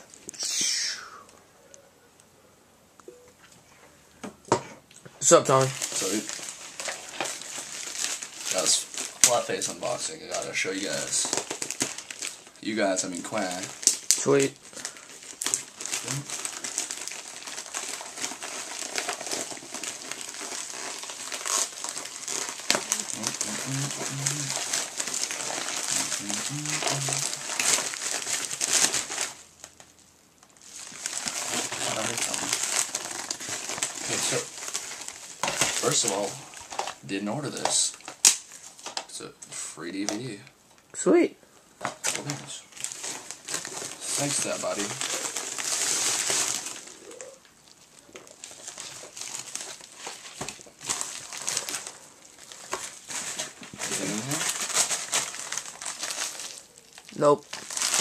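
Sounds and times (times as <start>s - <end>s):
packaging crinkling and rustling: 5.2s - 40.8s, 41.8s - 58.0s.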